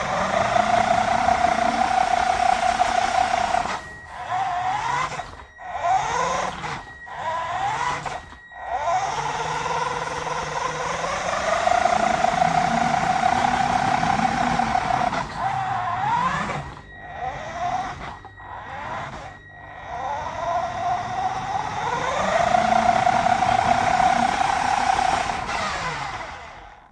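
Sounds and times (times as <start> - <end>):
toy car motor whining: 0.0 - 26.9.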